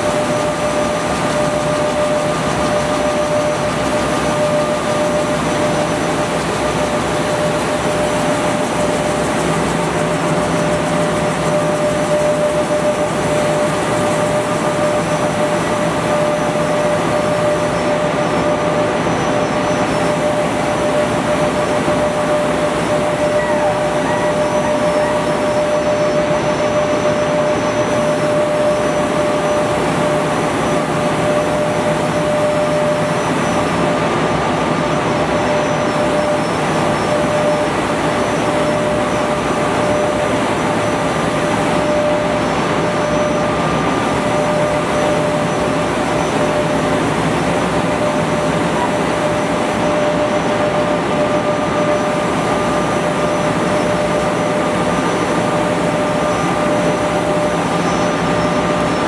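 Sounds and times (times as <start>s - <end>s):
machine humming and hissing: 0.0s - 59.0s.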